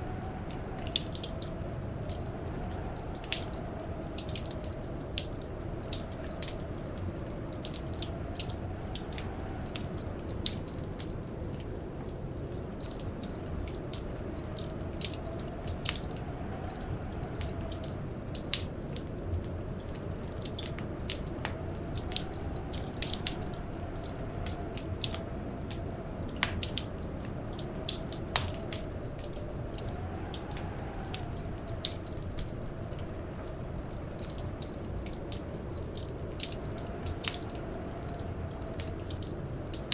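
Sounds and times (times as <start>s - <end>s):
wind howling: 0.0s - 39.9s
wood fire crackling: 0.0s - 39.9s.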